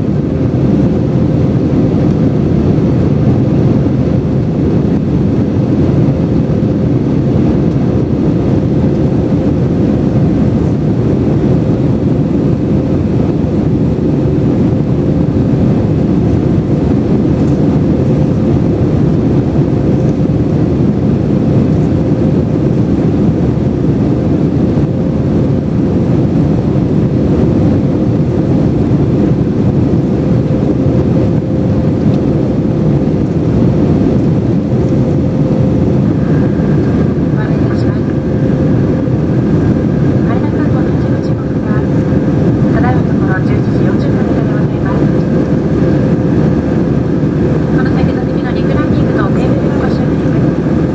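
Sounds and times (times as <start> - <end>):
airliner cabin engine rush: 0.0 - 50.9
faint steady hum: 0.0 - 50.9.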